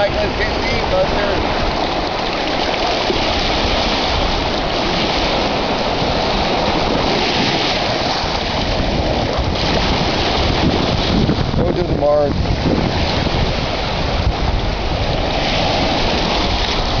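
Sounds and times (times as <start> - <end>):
ocean surf washing ashore: 0.0 - 17.0.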